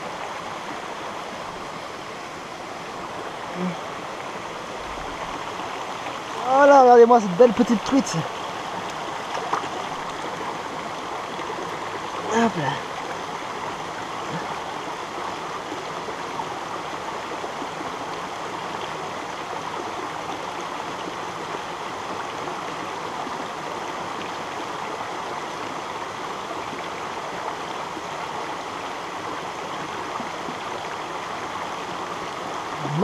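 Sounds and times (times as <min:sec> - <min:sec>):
stream running over rocks: 0:00.0 - 0:33.0.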